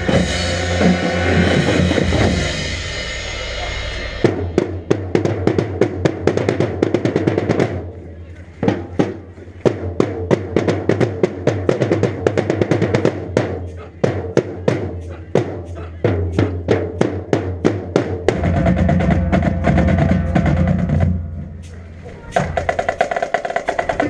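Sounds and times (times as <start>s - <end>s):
snare and bass drums: 0.0s - 7.9s, 8.6s - 24.0s.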